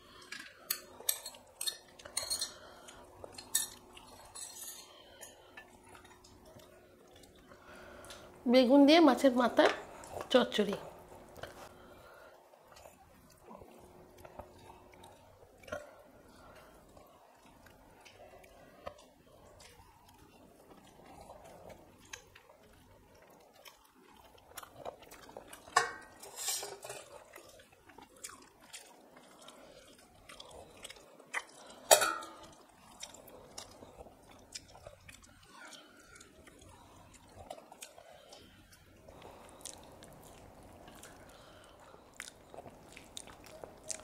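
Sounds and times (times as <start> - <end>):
chewing and mouth sounds: 0.0 - 8.3, 9.9 - 44.0.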